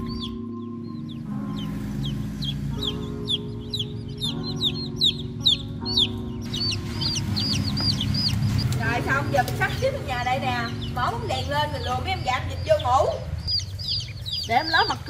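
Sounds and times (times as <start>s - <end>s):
chicks peeping: 0.0s - 15.0s
music of held chords: 0.0s - 15.0s.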